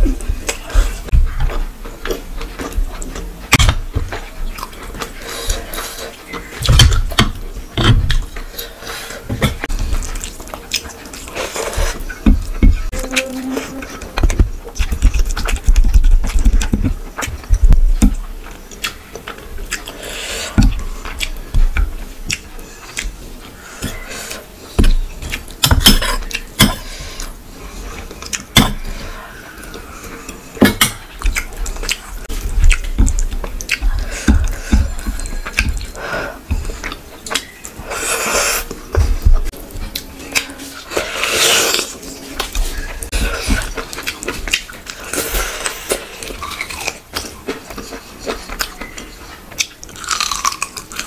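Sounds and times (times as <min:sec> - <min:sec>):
chewing and mouth noises: 0:00.0 - 0:51.0.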